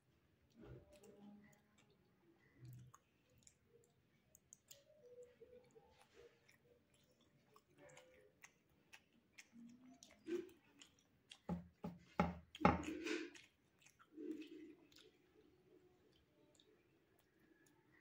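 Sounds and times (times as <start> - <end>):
man chewing with wet mouth sounds: 0.0 - 18.0.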